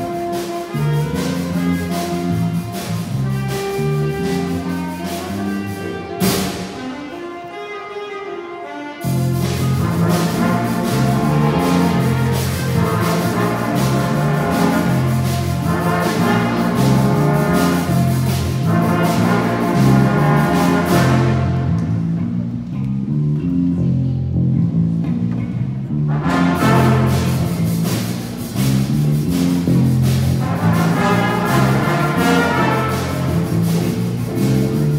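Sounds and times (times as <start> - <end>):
jazz band playing: 0.0 - 34.9.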